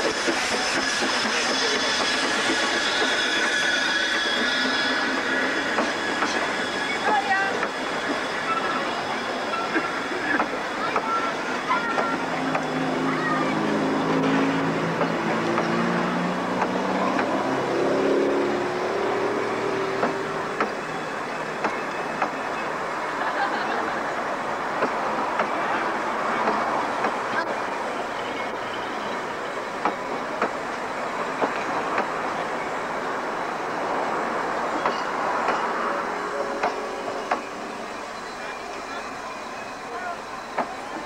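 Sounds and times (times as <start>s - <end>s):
train carriages rumbling past: 0.0s - 41.0s.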